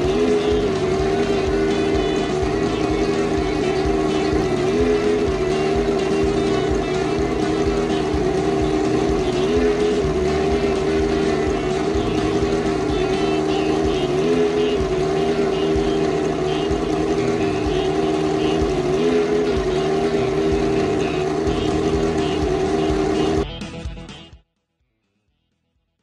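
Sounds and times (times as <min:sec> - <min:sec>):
race car engine fast idle: 0:00.0 - 0:23.4.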